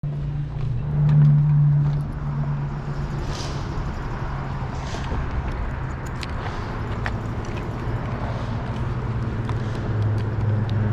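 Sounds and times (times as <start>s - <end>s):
engine running at low speed: 0.0s - 10.9s.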